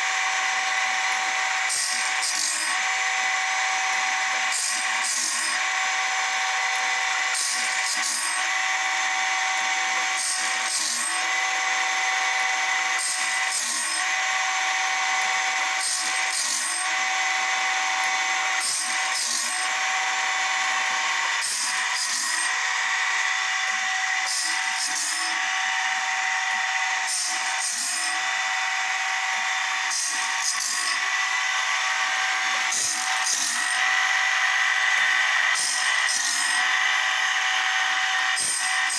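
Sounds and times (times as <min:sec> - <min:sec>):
grinding motor humming: 0:00.0 - 0:38.9
grinding stone rasping on blade teeth: 0:00.0 - 0:38.9.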